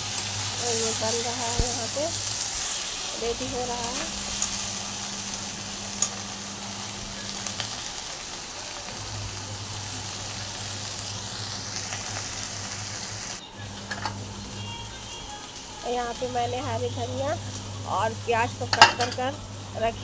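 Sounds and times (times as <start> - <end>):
steady low hum: 0.0 - 7.9, 8.9 - 15.2, 15.8 - 20.0
meat sizzling in a pan: 0.0 - 20.0.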